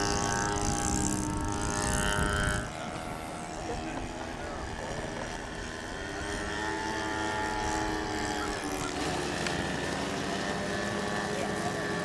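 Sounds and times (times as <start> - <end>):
model airplane engine running: 0.0 - 12.0.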